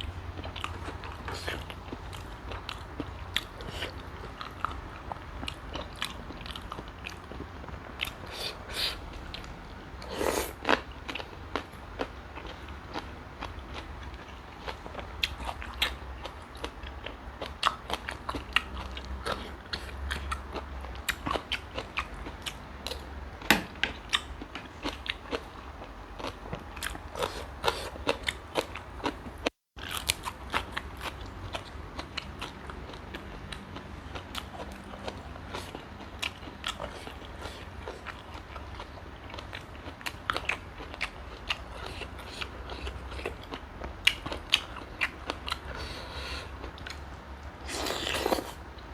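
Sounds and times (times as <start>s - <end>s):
person chewing and crunching: 0.0s - 48.9s.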